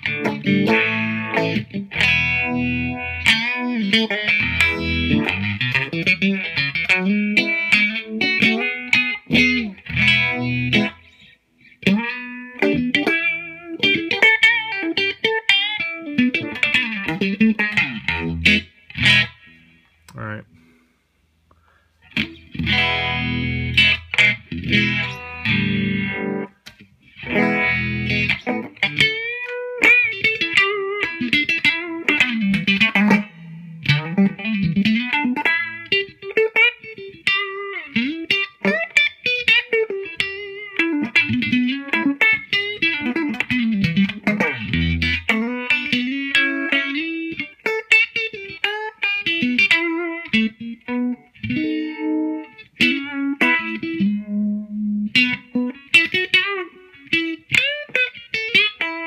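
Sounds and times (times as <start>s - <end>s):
electric guitar with warbling modulation: 0.0s - 20.4s, 22.0s - 59.0s.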